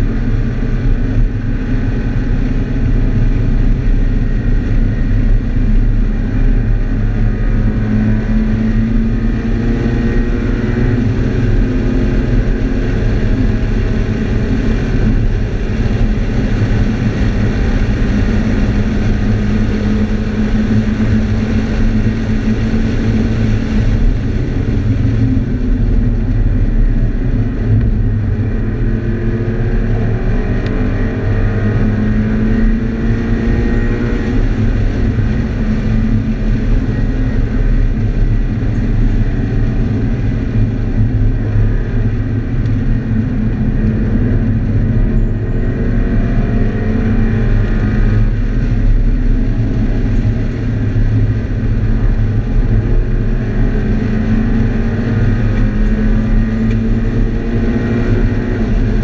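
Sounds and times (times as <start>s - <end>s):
car engine revving: 0.0s - 59.0s
road and wind noise: 0.0s - 59.0s.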